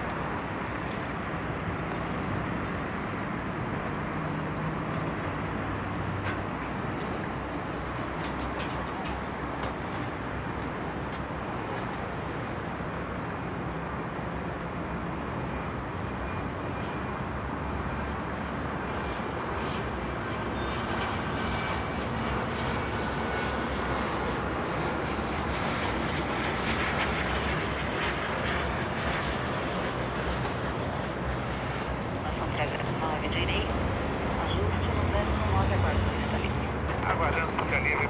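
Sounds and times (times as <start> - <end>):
jet engines rumbling with high whine: 0.0 - 38.0.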